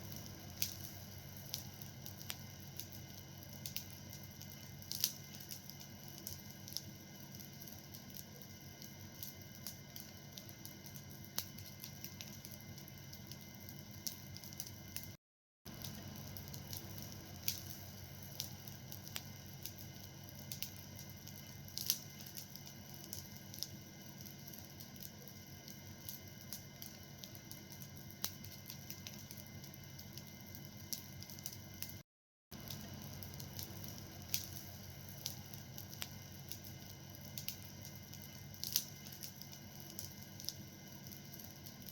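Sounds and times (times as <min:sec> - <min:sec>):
fire crackling and popping: 0:00.0 - 0:41.9.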